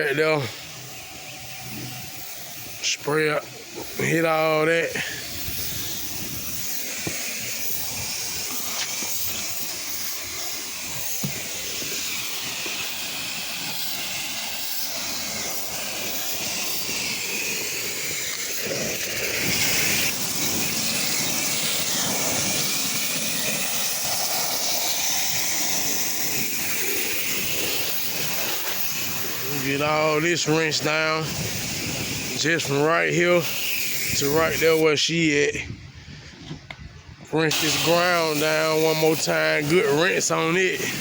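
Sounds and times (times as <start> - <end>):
pressure washer spray hissing: 0.0 - 35.7, 37.3 - 41.0.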